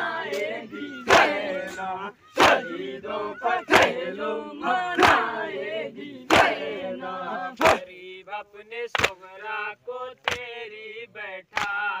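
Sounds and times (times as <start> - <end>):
men chanting: 0.0 - 12.0.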